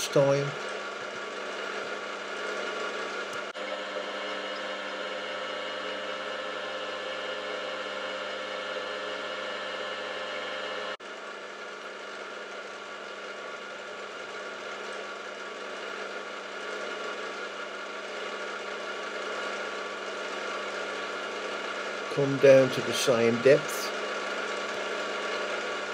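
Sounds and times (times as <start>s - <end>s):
milling machine motor hum: 0.0s - 25.9s.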